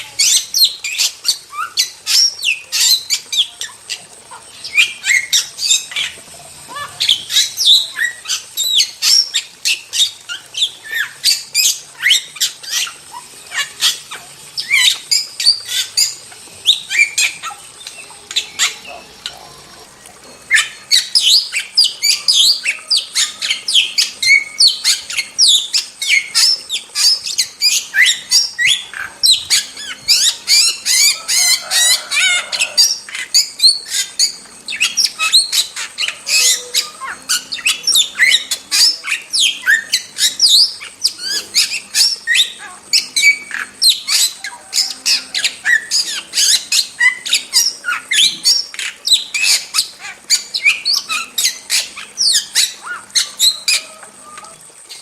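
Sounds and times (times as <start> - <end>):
starlings squawking and chirping: 0.0 - 55.0.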